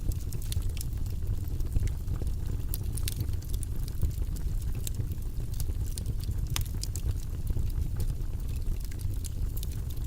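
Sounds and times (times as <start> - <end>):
fire snaps and pops: 0.0 - 10.0
low rumble of flames: 0.0 - 10.0.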